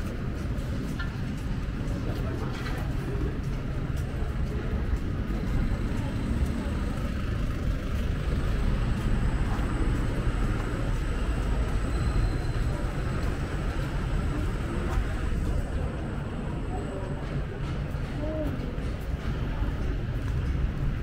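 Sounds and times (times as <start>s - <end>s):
faint voices: 0.0s - 21.0s
road traffic rumble: 0.0s - 21.0s.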